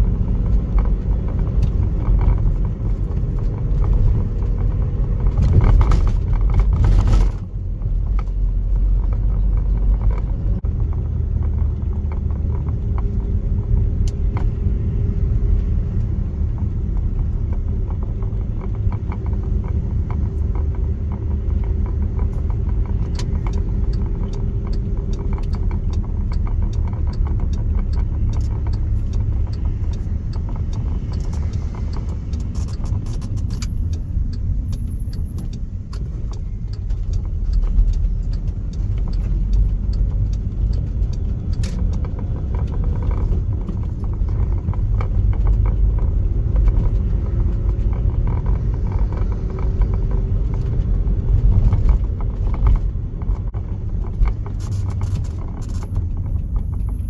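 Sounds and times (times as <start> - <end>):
van engine and road rumble: 0.0 - 57.0.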